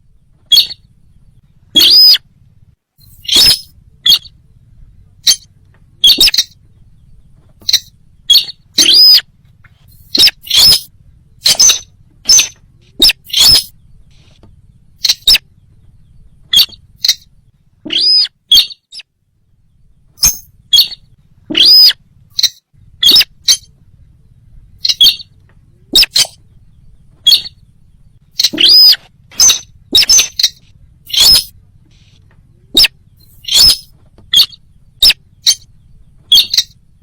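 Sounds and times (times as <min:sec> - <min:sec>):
high-pitched bird calls: 0:00.0 - 0:02.3, 0:03.0 - 0:19.1, 0:19.7 - 0:37.0.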